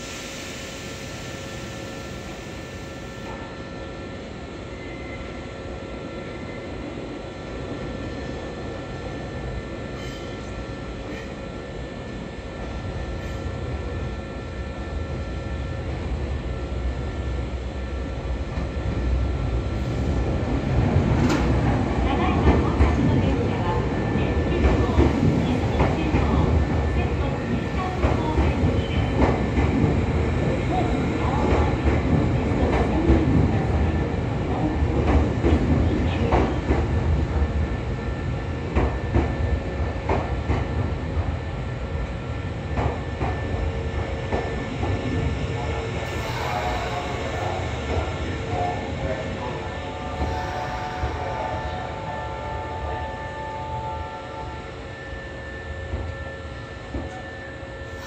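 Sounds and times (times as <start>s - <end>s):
train wheels rumbling on rails: 6.6s - 58.0s.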